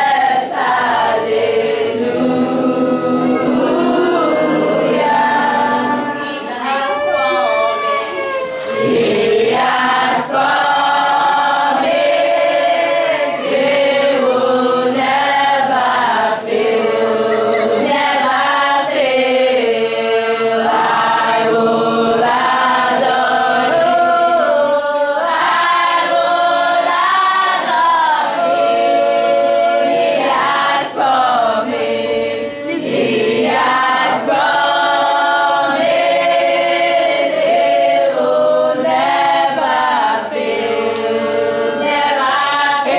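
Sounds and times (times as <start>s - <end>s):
children singing unaccompanied: 0.0s - 42.9s.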